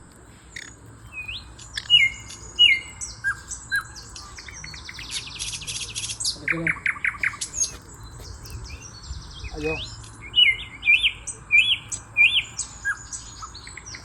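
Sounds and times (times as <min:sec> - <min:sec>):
small birds chirping: 0:00.0 - 0:14.0
buzzy bird trill: 0:00.5 - 0:14.0.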